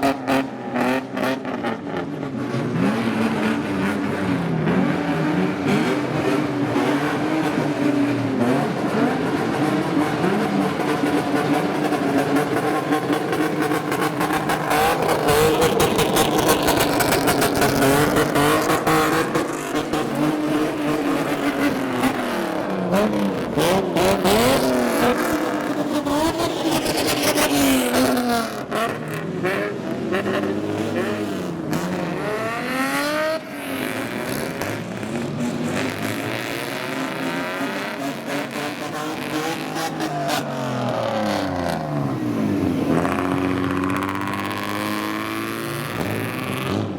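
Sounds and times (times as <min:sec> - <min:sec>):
cars revving and accelerating past: 0:00.0 - 0:46.9.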